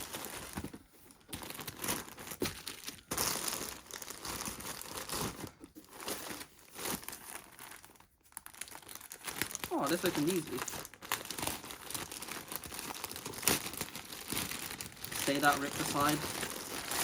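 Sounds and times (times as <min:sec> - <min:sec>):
plastic bag crinkling and tearing: 0:00.0 - 0:17.0.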